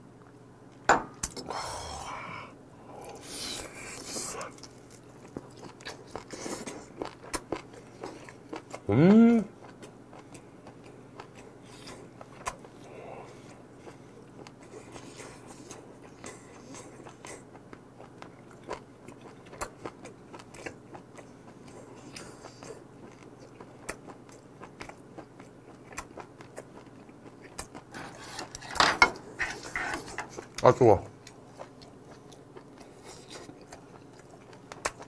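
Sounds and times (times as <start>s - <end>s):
person gnawing and chewing meat: 2.8s - 8.9s, 9.5s - 35.0s.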